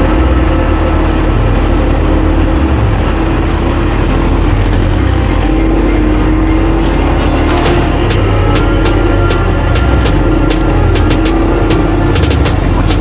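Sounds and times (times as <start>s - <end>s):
constant noisy rush: 0.0s - 13.0s
quad engine running: 0.0s - 13.0s.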